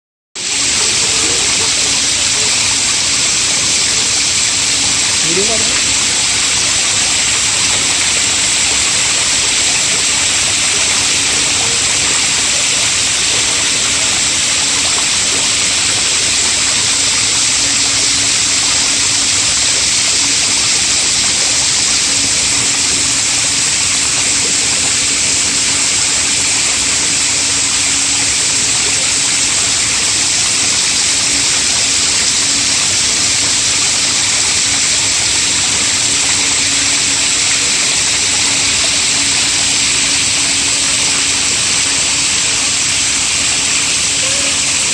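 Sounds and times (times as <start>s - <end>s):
fountain water splashing: 0.4s - 44.9s.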